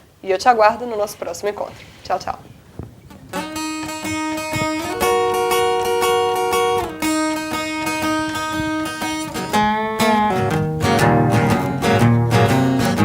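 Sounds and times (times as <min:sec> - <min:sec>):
blues guitar strumming chords: 0:00.7 - 0:13.0.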